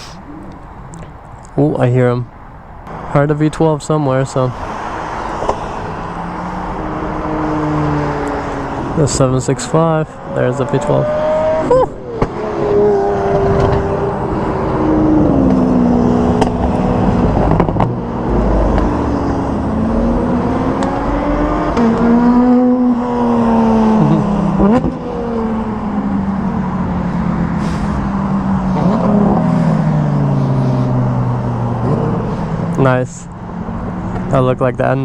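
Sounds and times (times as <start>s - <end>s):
cars revving past: 4.1s - 34.4s.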